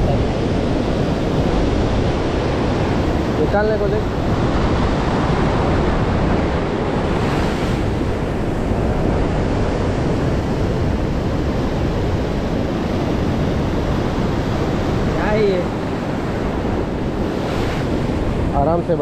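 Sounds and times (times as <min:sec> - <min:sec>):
sea surf breaking over rocks: 0:00.0 - 0:19.0
wind buffeting microphone: 0:00.0 - 0:19.0.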